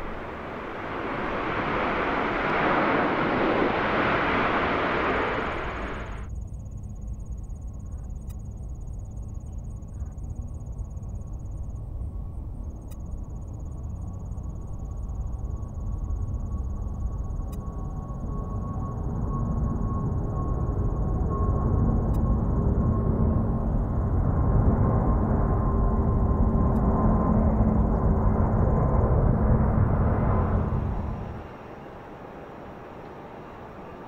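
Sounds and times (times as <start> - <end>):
jet engines at takeoff: 0.0 - 34.0
jet engines low rumble: 0.0 - 34.0.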